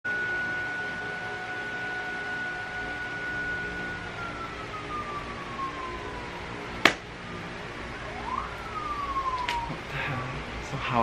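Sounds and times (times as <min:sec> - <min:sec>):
emergency siren wailing: 0:00.1 - 0:10.4.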